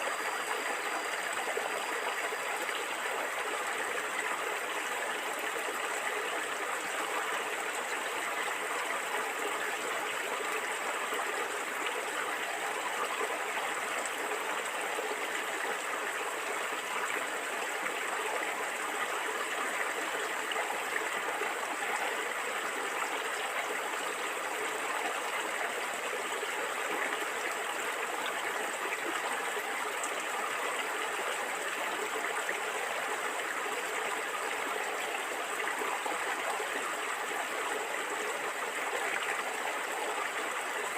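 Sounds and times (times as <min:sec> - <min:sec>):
stream water gurgling over stones: 0:00.0 - 0:40.9.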